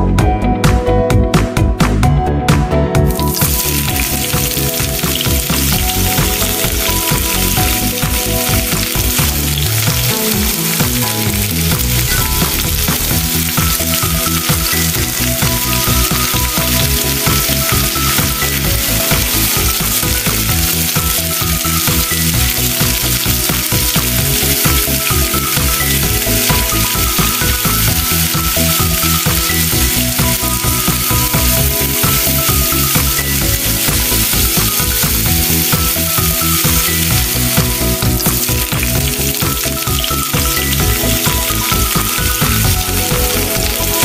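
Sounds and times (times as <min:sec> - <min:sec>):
garlic sizzling in hot oil: 0:03.1 - 0:44.0.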